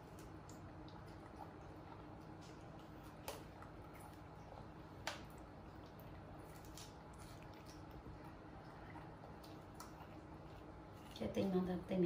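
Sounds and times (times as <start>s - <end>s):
monkeys chewing with wet smacks: 0.0s - 11.4s
quiet room hum: 0.0s - 12.0s.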